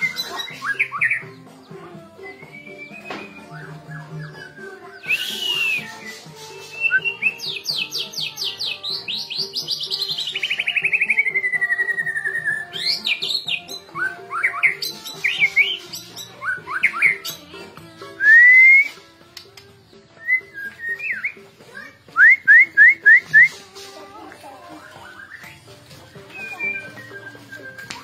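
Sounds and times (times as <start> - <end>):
songbird singing: 0.0 - 28.0.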